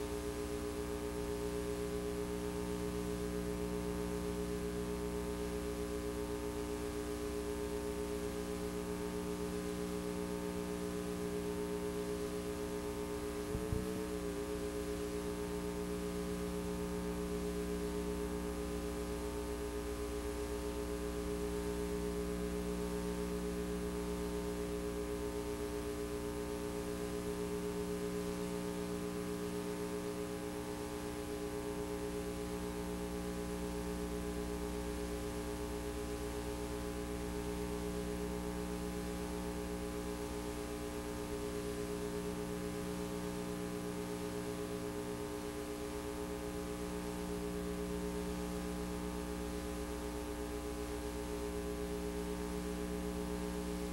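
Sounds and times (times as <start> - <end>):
electrical hum: 0.0 - 53.9.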